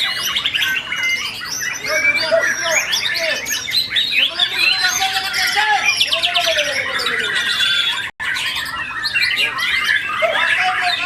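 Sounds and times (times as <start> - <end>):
birds singing whistles and trills: 0.0 - 11.0.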